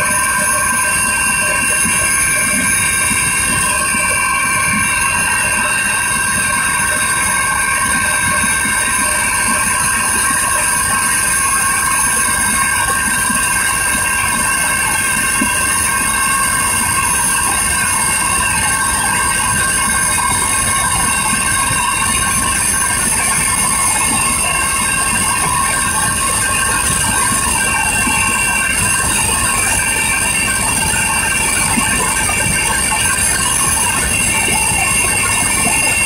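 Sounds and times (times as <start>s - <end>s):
helicopter rotor and engine rumble: 0.0s - 36.0s
high-pitched whines: 0.0s - 36.0s.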